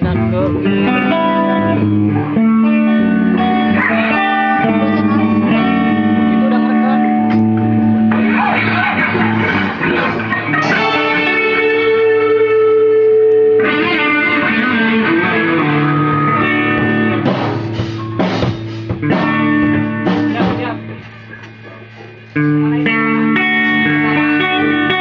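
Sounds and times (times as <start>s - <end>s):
guitar chords strummed: 0.0s - 25.0s.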